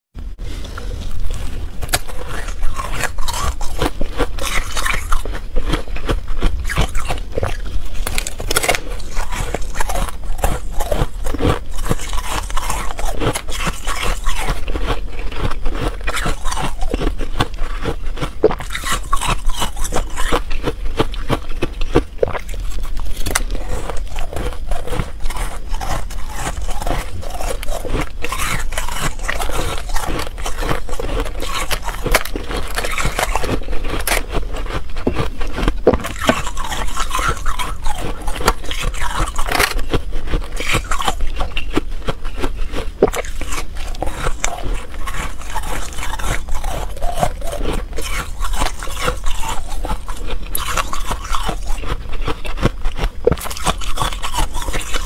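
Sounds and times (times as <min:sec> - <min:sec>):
crunching and chewing frost: 0:00.1 - 0:55.0.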